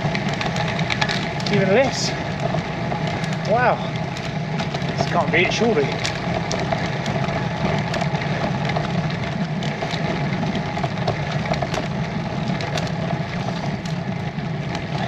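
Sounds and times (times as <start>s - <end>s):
tyres rumbling on rough road: 0.0s - 15.0s.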